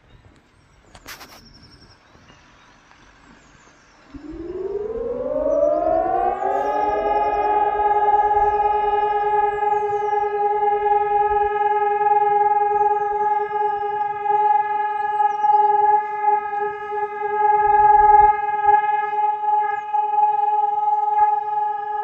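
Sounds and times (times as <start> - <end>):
electronic sirens rising tone: 4.0 - 22.0.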